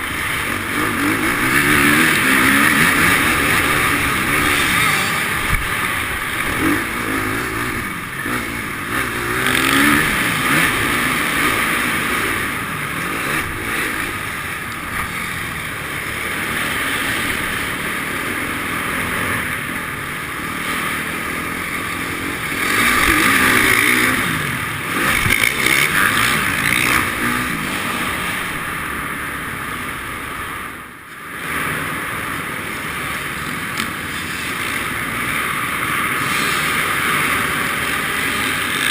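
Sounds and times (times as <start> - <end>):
motocross bike engine revving: 0.0 - 30.3, 31.3 - 38.9.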